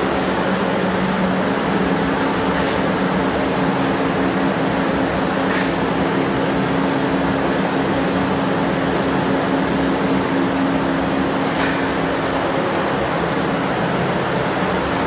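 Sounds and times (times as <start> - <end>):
conveyor motors humming: 0.0 - 15.0.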